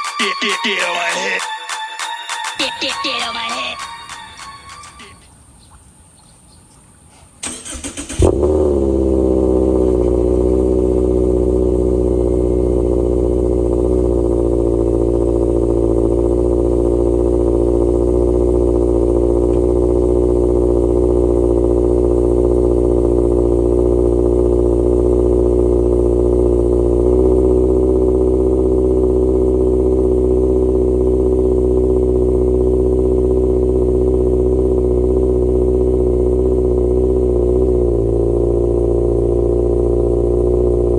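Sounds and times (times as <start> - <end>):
car engine starting and idling: 3.7 - 40.9.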